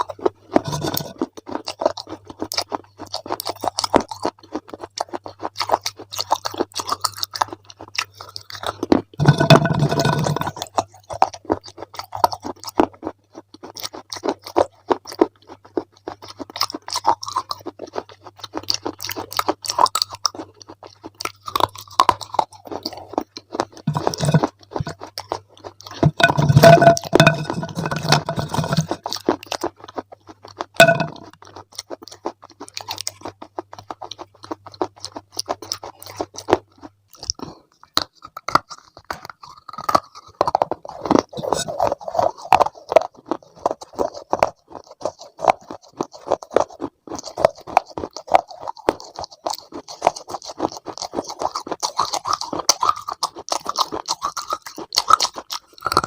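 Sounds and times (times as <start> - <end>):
chewing crunchy ice cream: 0.0 - 56.0.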